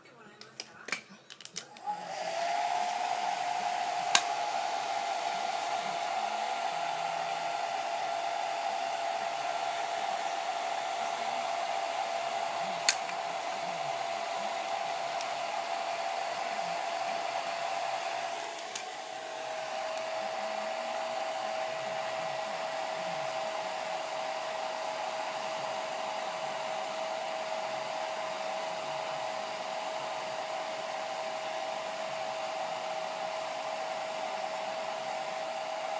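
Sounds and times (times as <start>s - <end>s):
hair dryer running: 1.6s - 35.9s.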